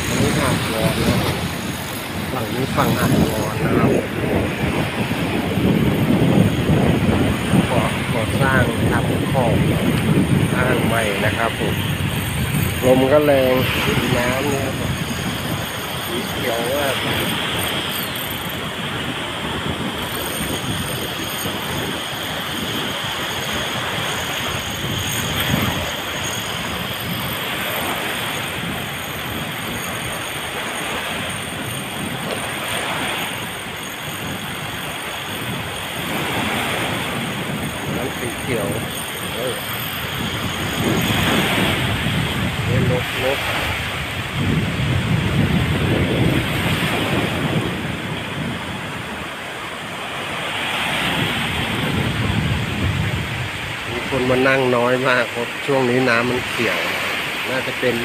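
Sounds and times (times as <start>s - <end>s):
small waves washing onto sand: 0.0s - 58.0s
wind rushing over microphone: 0.0s - 58.0s.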